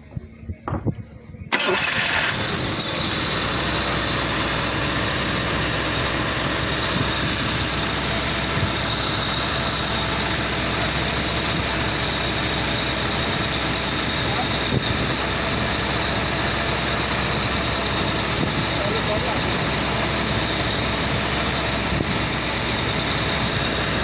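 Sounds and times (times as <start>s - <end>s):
car engine idling: 1.4s - 24.0s.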